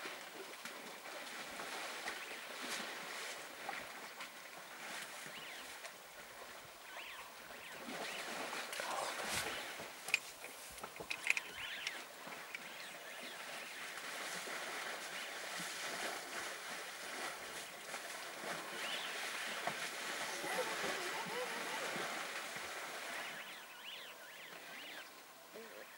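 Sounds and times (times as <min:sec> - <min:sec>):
mud and water sloshing: 0:00.0 - 0:23.6.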